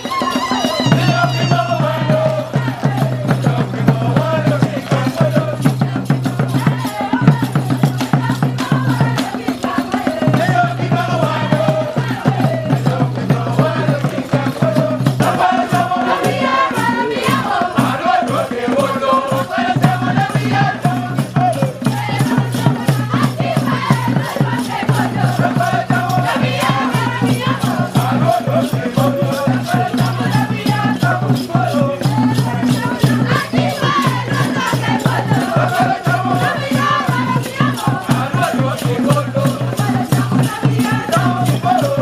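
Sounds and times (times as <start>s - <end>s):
shaker rhythm: 0.0s - 42.0s
voices singing: 0.0s - 42.0s.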